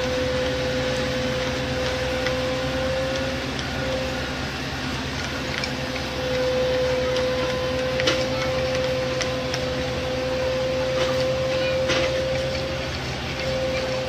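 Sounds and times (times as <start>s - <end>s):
machinery hum and whine: 0.0s - 14.0s.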